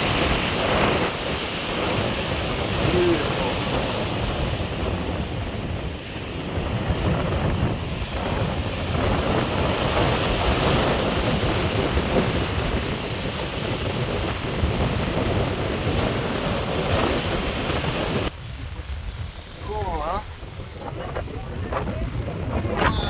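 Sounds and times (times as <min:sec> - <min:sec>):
surf washing: 0:00.0 - 0:23.0
wind gusting on microphone: 0:00.0 - 0:23.0.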